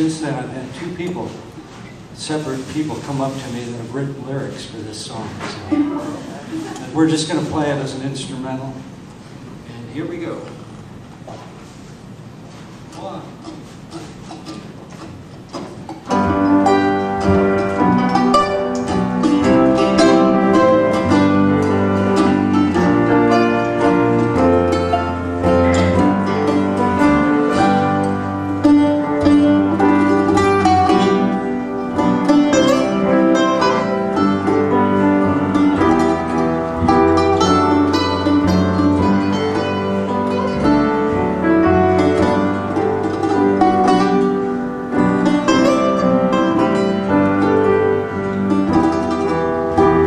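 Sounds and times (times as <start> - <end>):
acoustic guitar waltz: 5.3 - 7.7, 11.6 - 50.0.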